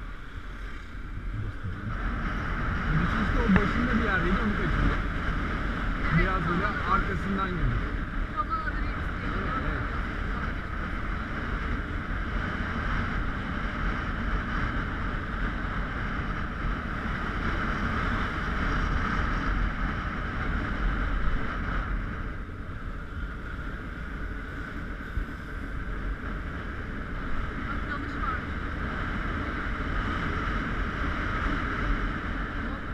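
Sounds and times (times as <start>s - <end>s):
wind rushing over microphone: 0.0s - 32.9s
motorbike engine: 0.9s - 32.9s.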